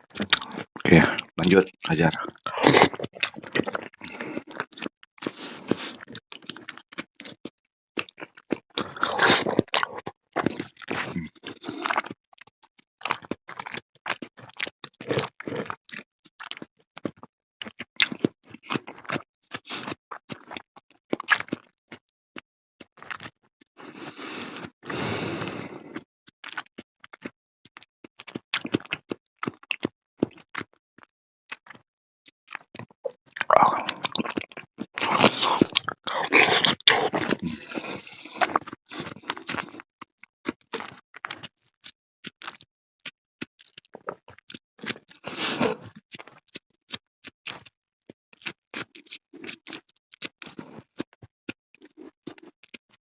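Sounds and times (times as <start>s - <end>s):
wet chewing and crunching: 0.0s - 22.1s, 22.8s - 31.8s, 32.5s - 53.0s.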